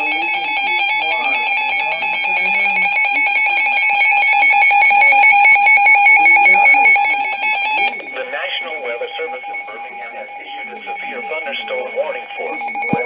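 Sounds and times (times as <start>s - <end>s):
electronic alarm tone: 0.0s - 13.0s
faint speech: 0.0s - 13.0s.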